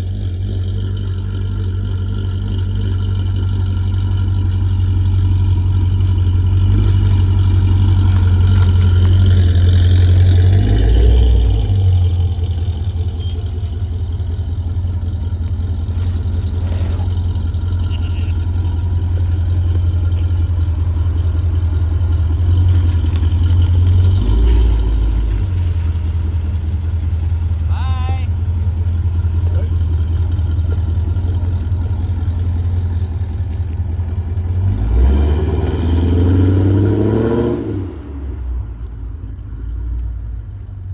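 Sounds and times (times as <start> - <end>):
car engine revving: 0.0 - 39.5.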